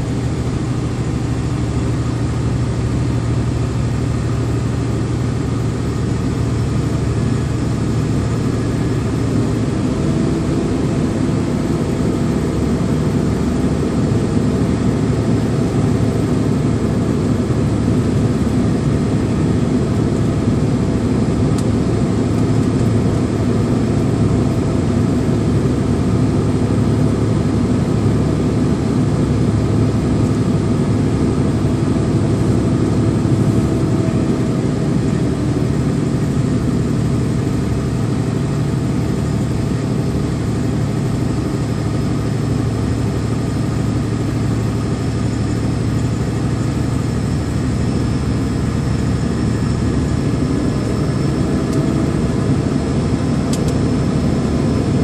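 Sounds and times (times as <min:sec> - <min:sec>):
road and tyre noise: 0:00.0 - 0:55.0
vehicle engine running: 0:00.0 - 0:55.0.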